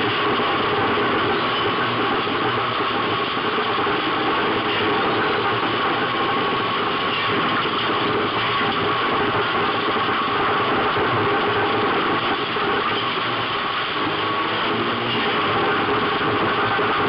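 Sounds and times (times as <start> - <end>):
race car engine running hard: 0.0 - 17.0
steady rush of noise: 0.0 - 17.0.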